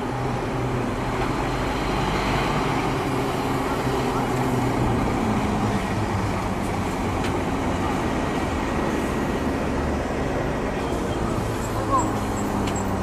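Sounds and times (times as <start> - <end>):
fire engines driving past: 0.0 - 13.0.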